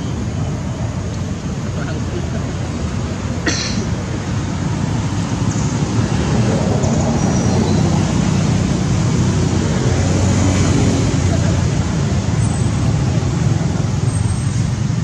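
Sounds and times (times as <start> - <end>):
loud outdoor rumbling: 0.0 - 15.0.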